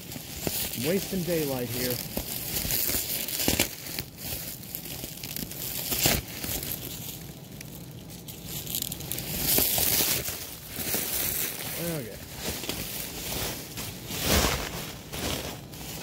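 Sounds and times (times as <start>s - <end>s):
cardboard tearing and scraping: 0.0s - 7.1s, 8.8s - 16.0s.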